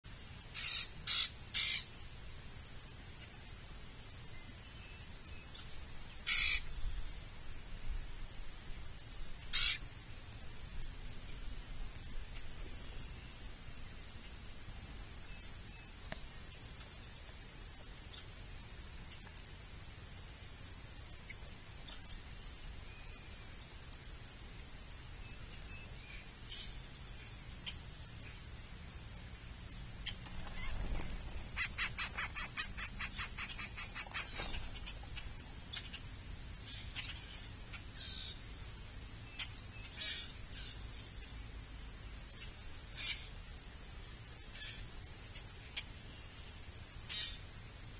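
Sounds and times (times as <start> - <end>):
birds chirping: 0.0 - 7.7, 8.3 - 47.9.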